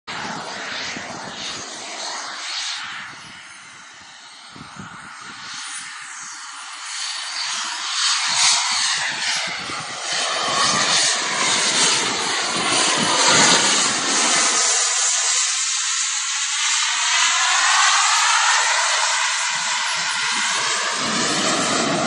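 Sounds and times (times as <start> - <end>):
model jet engine whine: 0.1 - 22.0.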